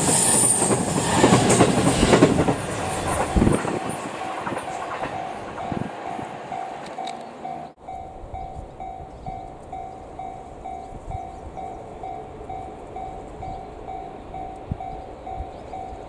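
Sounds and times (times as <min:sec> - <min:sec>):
electric train rumble: 0:00.0 - 0:16.0
level-crossing warning bell: 0:01.6 - 0:16.0.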